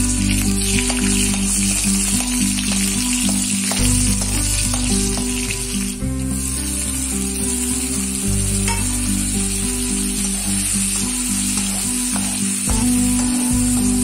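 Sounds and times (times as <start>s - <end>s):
background music: 0.0s - 14.0s
vegetables sizzling in a wok: 0.0s - 14.0s.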